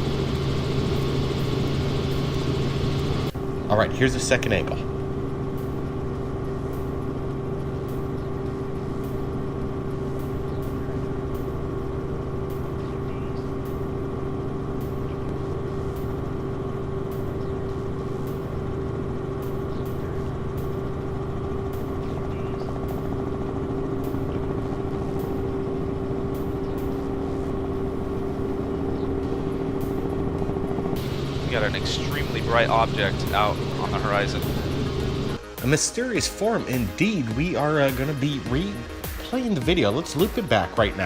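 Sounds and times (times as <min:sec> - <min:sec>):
helicopter engine and rotor drone: 0:00.0 - 0:41.0.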